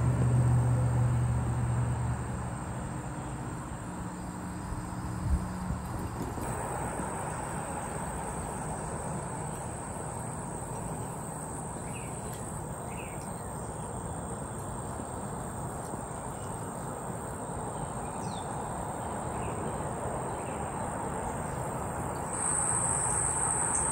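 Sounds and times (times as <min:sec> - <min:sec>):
insects droning: 0:00.0 - 0:23.9.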